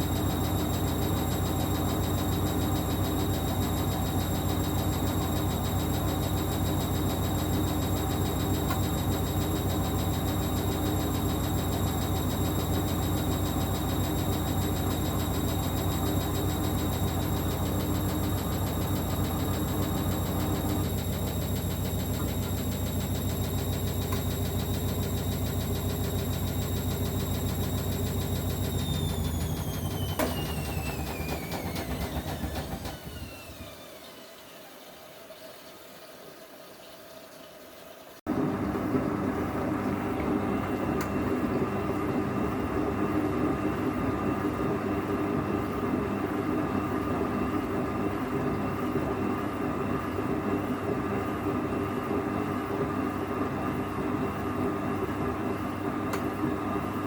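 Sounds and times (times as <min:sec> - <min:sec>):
washing machine running: 0:00.0 - 0:35.5, 0:38.3 - 0:57.0.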